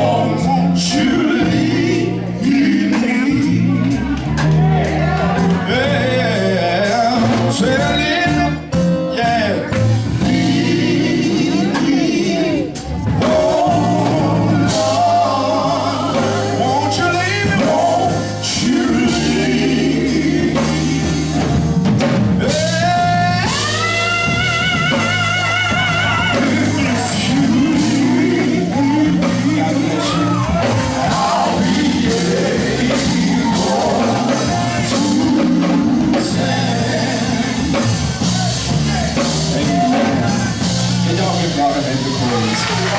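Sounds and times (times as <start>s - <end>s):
gospel quartet singing: 0.0s - 42.9s
live band accompaniment: 0.0s - 42.9s.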